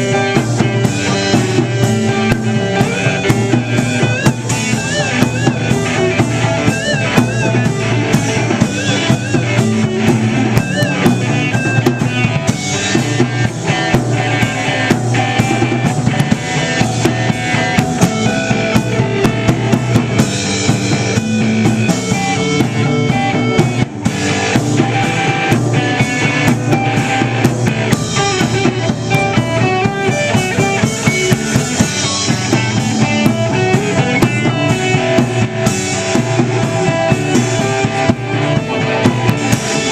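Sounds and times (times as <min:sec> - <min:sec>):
drum kit steady beat: 0:00.0 - 0:39.9
electric guitar: 0:00.0 - 0:39.9
wavering lead melody: 0:00.0 - 0:39.9.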